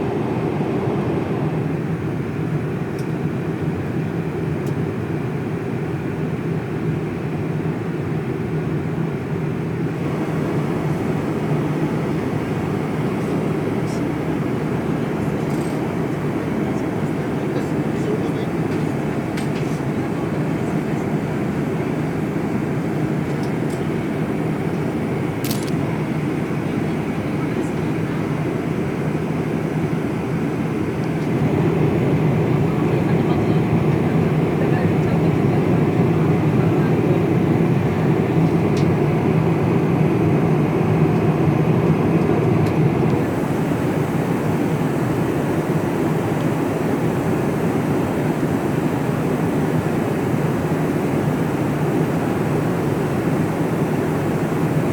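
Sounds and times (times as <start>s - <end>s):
airliner cabin roar: 0.0s - 8.0s, 8.6s - 54.9s.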